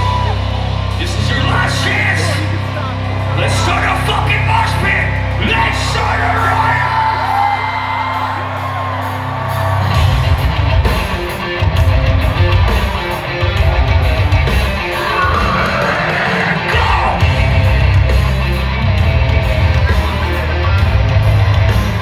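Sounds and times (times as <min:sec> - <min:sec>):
guitar and bass chords ringing: 0:00.0 - 0:22.0
live rock band playing: 0:00.0 - 0:22.0
drums crashing: 0:03.6 - 0:22.0.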